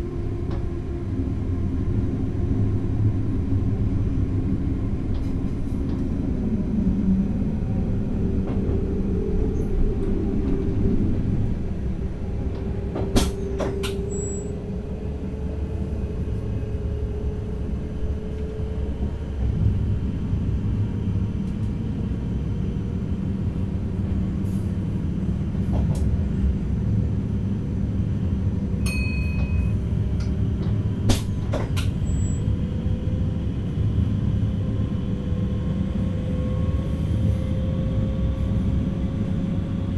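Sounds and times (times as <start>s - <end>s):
train running gear rumble: 0.0s - 39.9s.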